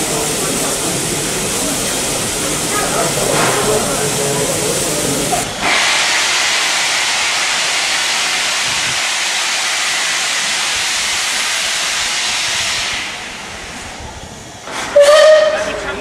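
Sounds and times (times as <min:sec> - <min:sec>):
steam locomotive hissing steam: 0:00.0 - 0:16.0.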